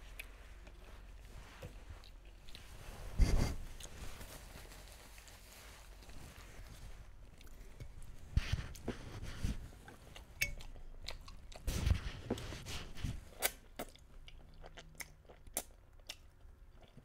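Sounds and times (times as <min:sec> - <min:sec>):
close chewing: 0:00.0 - 0:02.8, 0:03.7 - 0:17.0.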